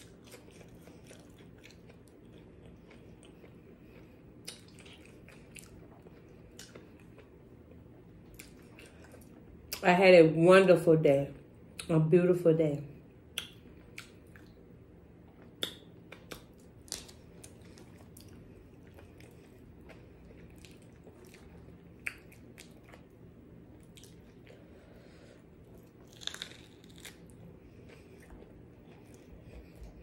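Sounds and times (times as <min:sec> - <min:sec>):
person chewing with crunches: 0:00.0 - 0:09.8, 0:13.3 - 0:30.0.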